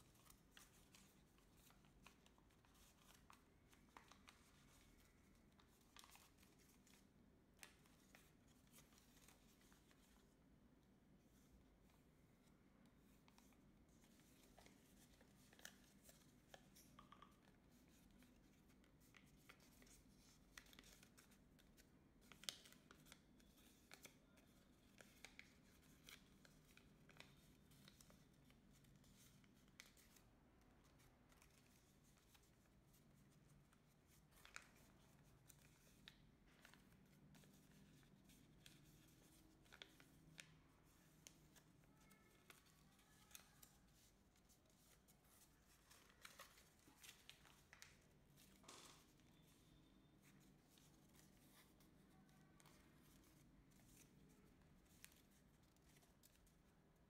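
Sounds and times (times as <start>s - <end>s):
paper crackling as folded: 0.0s - 10.3s, 13.0s - 56.7s.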